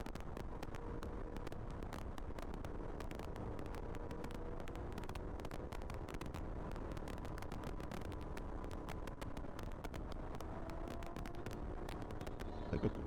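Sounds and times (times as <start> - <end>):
motorcycle engine drone: 0.3 - 13.0.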